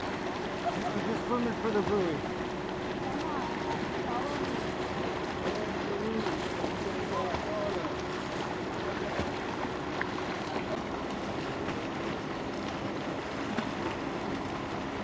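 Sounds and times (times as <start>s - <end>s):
wind and water rushing: 0.0s - 15.0s.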